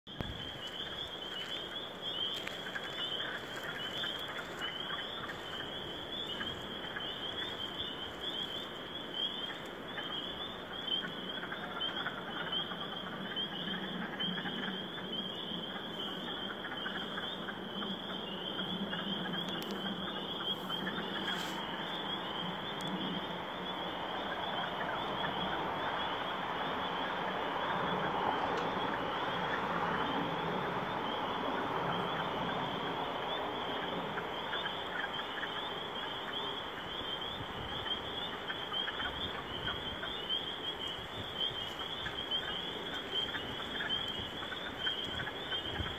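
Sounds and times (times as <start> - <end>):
frogs chirping: 0.1 - 45.9.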